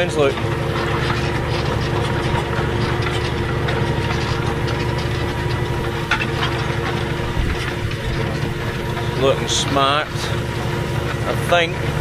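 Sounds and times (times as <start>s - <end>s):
light knocks and rattles: 0.0s - 11.9s
tractor engine running under load: 0.0s - 12.0s.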